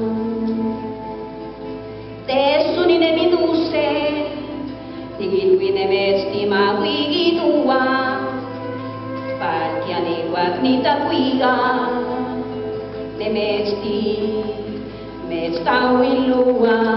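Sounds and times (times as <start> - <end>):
woman singing with vibrato: 0.0 - 1.4, 2.3 - 16.9.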